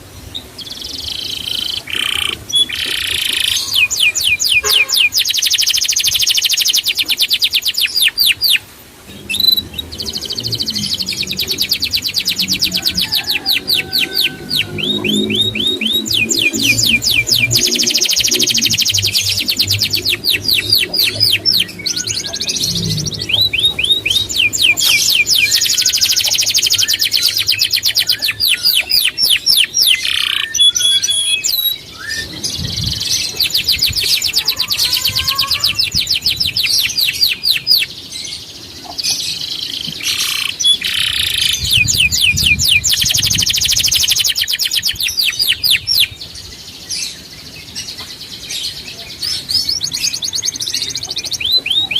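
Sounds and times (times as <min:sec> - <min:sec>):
songbird trilling: 0:00.4 - 0:48.0, 0:48.6 - 0:51.9.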